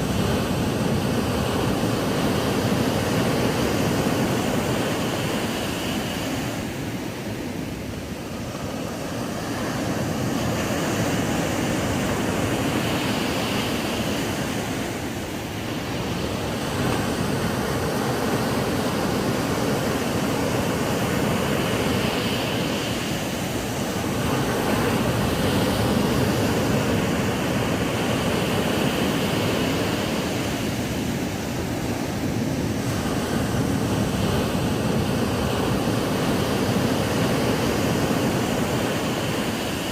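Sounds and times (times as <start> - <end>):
ocean waves on sandy beach: 0.0 - 39.9.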